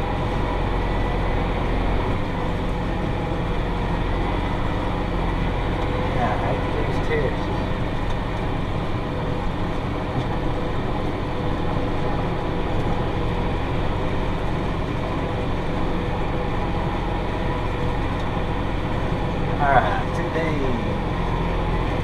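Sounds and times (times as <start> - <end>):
tractor running under load: 0.0 - 22.0.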